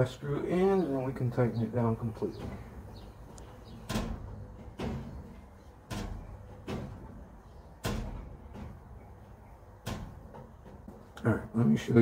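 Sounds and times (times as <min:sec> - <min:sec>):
metal door banging against jamb: 0:01.4 - 0:11.1.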